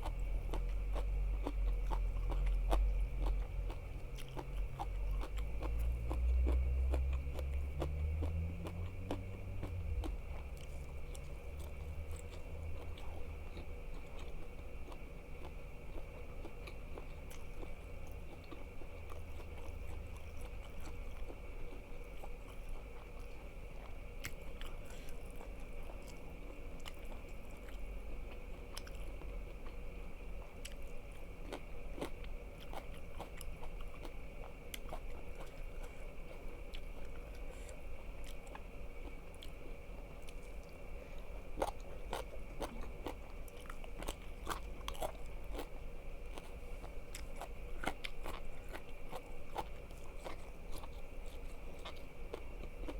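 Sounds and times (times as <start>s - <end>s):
chewing crunchy food: 0.0s - 52.9s.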